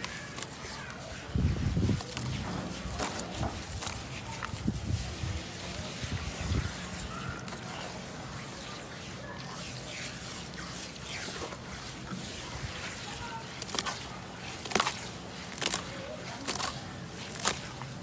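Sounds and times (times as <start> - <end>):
hands squelching wet mud: 0.0 - 18.0
wet splats: 0.0 - 18.0.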